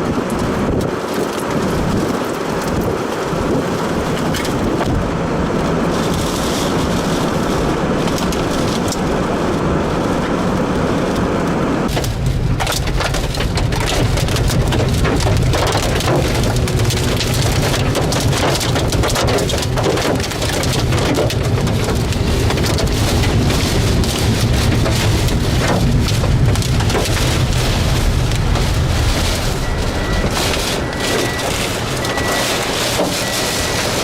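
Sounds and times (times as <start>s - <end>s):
heavy rain hitting surface: 0.0s - 34.0s
low thunder rumble: 1.6s - 34.0s.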